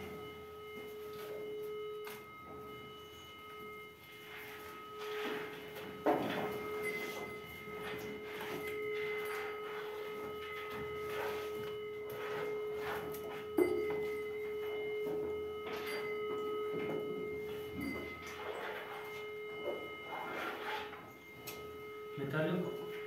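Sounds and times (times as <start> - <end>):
metal detector electronic tone: 0.0 - 23.0.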